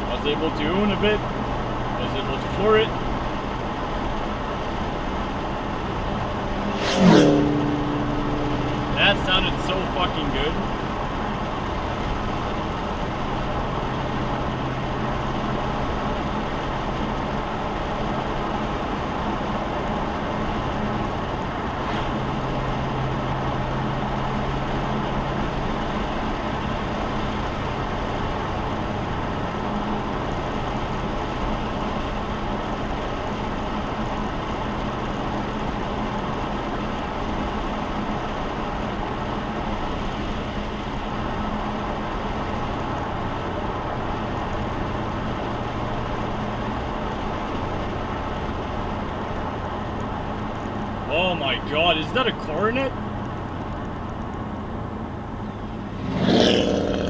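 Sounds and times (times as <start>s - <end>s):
car engine hum: 0.0s - 57.0s
road and tyre noise: 0.0s - 57.0s.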